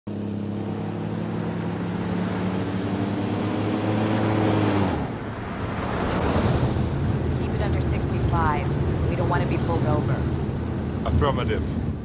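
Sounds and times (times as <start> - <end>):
vehicle engine humming: 0.1 - 12.0.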